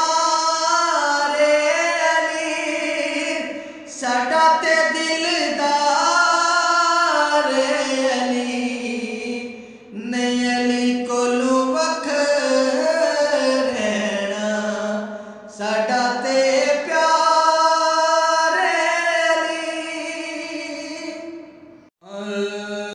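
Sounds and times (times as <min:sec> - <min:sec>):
man singing unaccompanied: 0:00.0 - 0:22.9.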